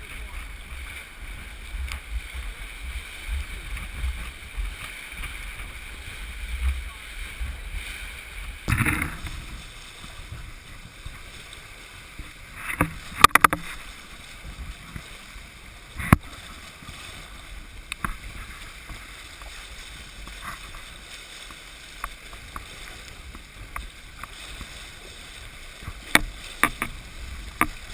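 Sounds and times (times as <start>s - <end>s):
water rushing along hull: 0.0s - 27.9s
waves slapping against hull: 0.0s - 27.9s.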